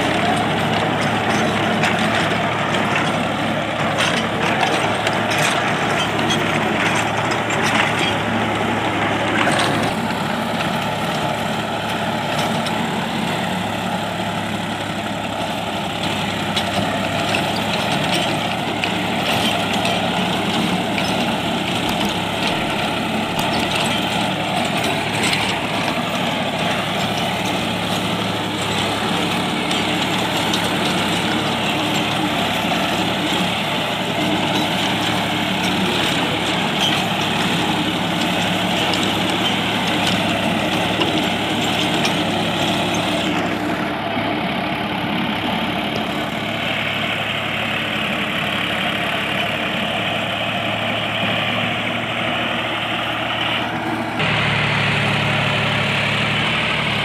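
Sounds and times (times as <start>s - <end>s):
rotavator mechanical clatter: 0.0s - 57.0s
tractor diesel engine under load: 0.0s - 57.0s.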